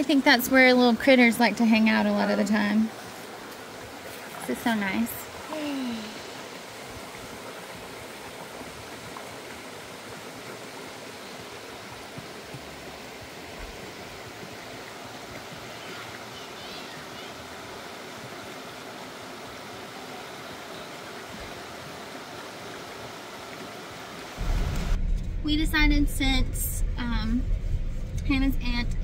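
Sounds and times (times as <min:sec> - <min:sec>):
creek water rushing over stones: 0:00.0 - 0:25.0.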